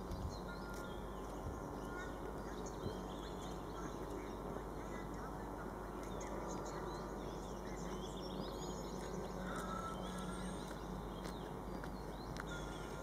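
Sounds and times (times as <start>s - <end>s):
birds chirping: 0.0s - 13.0s
distant diesel locomotive drone: 0.0s - 13.0s.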